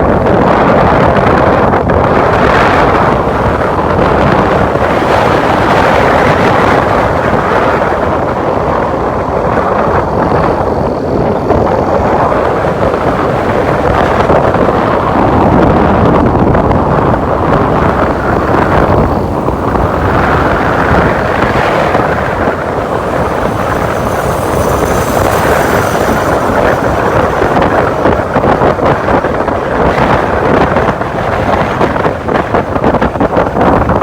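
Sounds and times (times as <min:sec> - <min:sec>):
motorcycle and tyre noise: 0:00.0 - 0:34.0
wind buffeting microphone: 0:00.0 - 0:34.0.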